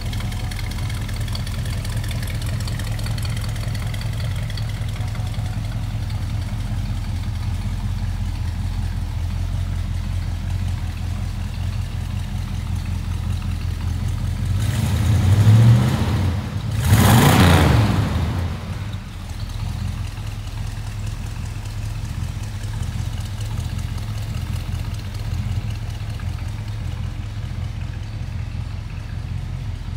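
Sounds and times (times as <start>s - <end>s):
pickup engine idling and revving: 0.0s - 29.9s.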